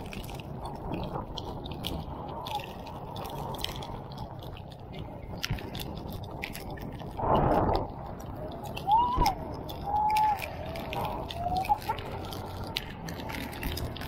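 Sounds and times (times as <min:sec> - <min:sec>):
raindrops ticking on camera: 0:00.0 - 0:14.0
wind and road noise rumble: 0:00.0 - 0:14.0.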